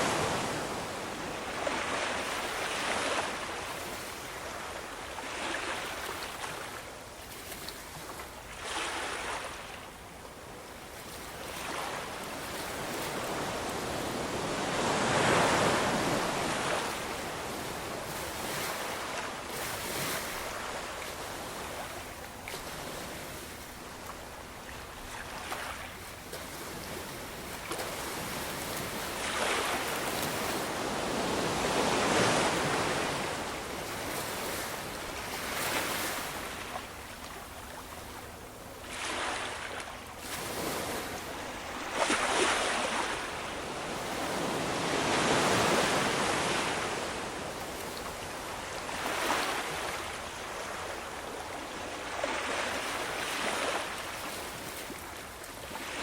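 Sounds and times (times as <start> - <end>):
ocean waves breaking: 0.0 - 6.8, 11.4 - 38.0, 38.9 - 56.0.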